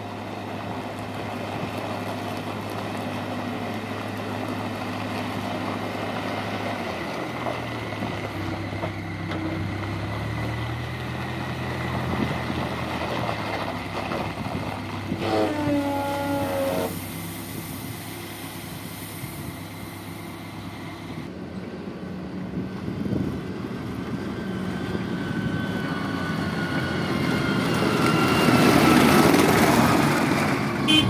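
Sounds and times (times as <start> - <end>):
backhoe diesel engine running: 0.0 - 31.0
diesel engine driving past: 0.0 - 31.0.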